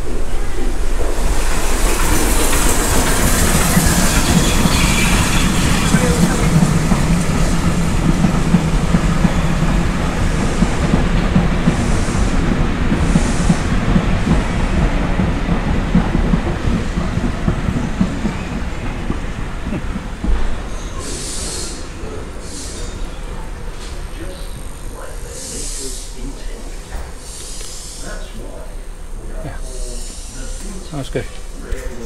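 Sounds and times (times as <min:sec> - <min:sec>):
steam hissing: 0:00.0 - 0:32.0
train wheels rumbling on track: 0:00.0 - 0:32.0.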